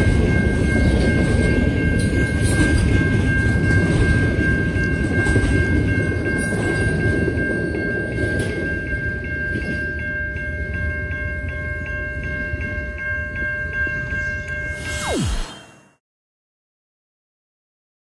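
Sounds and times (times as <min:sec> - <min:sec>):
freight train rolling past: 0:00.0 - 0:15.2
high ringing tone: 0:00.0 - 0:16.0.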